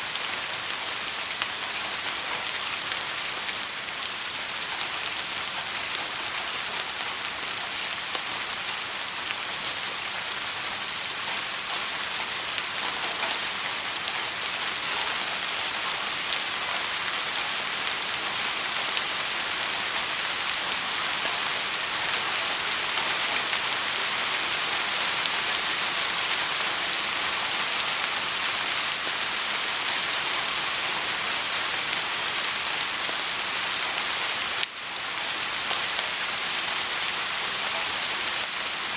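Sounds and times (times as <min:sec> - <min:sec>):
soft rain hiss: 0:00.0 - 0:38.9.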